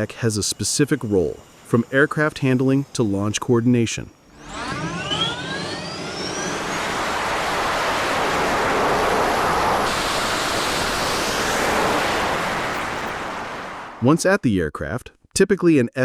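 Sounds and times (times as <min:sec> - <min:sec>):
jet engine spooling up: 0:00.0 - 0:03.6, 0:04.2 - 0:14.1.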